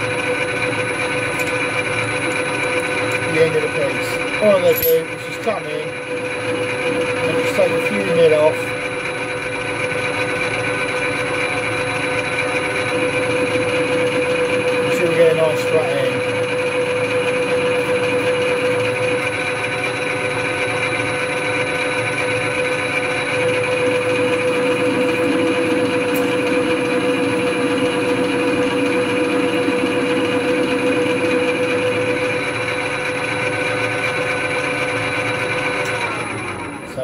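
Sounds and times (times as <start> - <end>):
lathe gear whine: 0.0 - 37.0.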